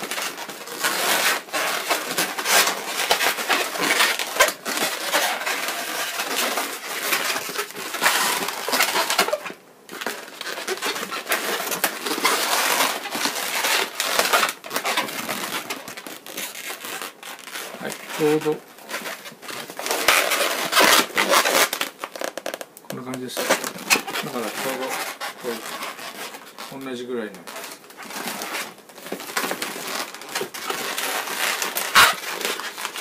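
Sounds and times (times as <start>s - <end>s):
balloons squeaking and rubbing: 0.0s - 33.0s.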